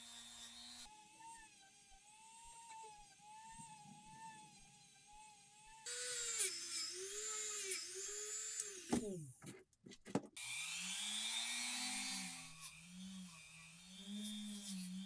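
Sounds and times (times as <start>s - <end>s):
rotary tool grinding metal: 0.0s - 9.0s, 10.4s - 15.0s.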